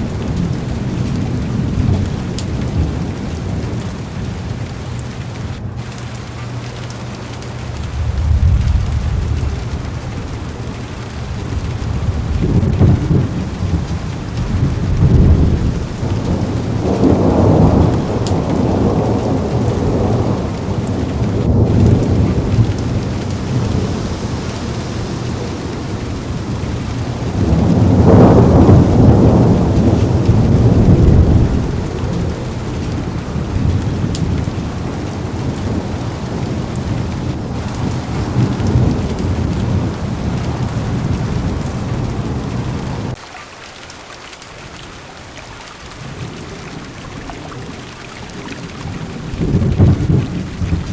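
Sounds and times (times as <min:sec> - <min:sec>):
rolling thunder: 0:00.0 - 0:43.2, 0:45.9 - 0:50.9
heavy rain on car window: 0:00.0 - 0:50.9.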